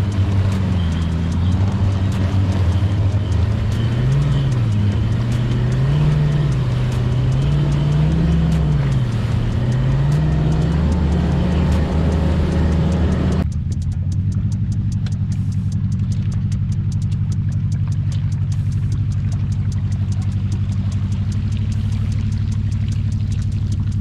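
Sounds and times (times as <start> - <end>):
outboard motor droning: 0.0 - 13.6, 14.2 - 24.0.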